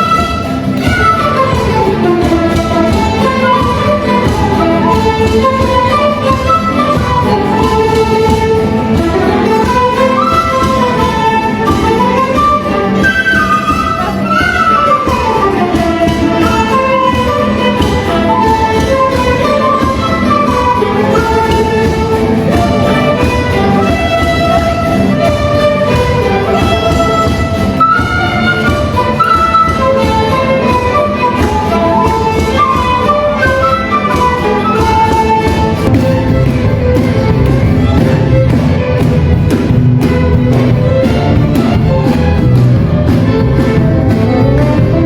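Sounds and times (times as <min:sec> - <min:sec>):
violin ensemble music: 0:00.0 - 0:45.0.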